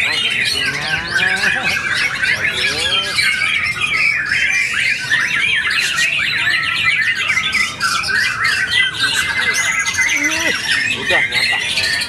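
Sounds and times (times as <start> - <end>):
other songbirds singing: 0.0 - 12.0
songbird singing chirps and trills: 0.0 - 12.0.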